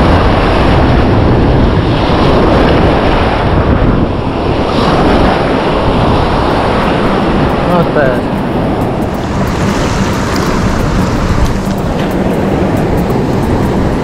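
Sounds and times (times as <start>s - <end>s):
surf churning over rocks: 0.0s - 14.0s
wind buffeting microphone: 0.0s - 14.0s.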